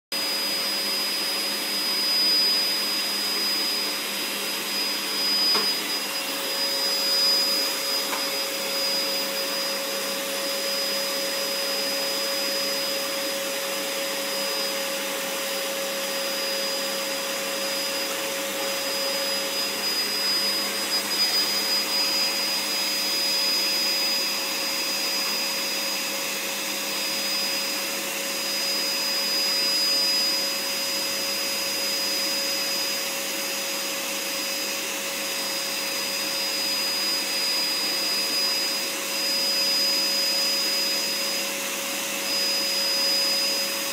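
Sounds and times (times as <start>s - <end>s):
vacuum cleaner running: 0.1s - 43.9s.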